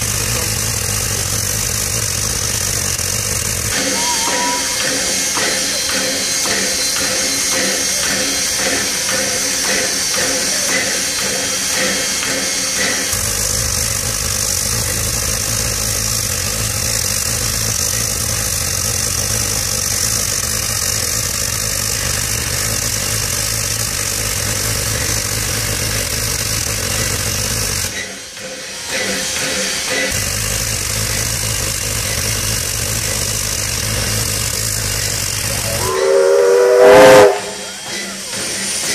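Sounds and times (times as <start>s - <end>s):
steam hissing: 3.0s - 38.9s.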